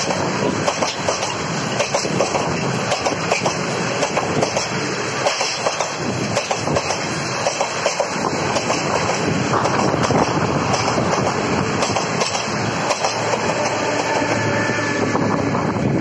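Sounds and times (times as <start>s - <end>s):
wheels clacking over rail joints: 0.0s - 14.4s
diesel locomotive engine drone: 0.0s - 16.0s
train rumble: 0.0s - 16.0s.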